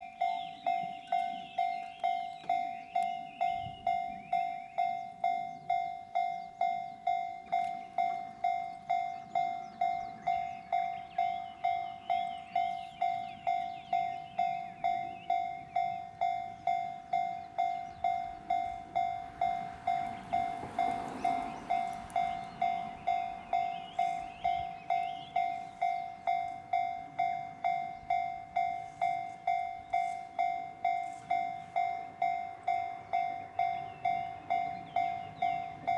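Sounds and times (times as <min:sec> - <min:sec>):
level crossing warning bell: 0:00.0 - 0:35.9
birds twittering: 0:00.1 - 0:35.9.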